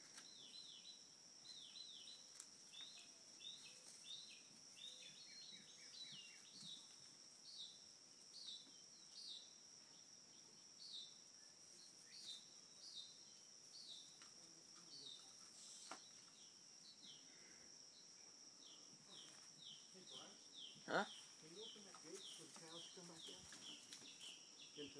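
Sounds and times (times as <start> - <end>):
small bird chirping: 0.0 - 17.3, 18.6 - 24.9
high-pitched insect drone: 0.0 - 24.9.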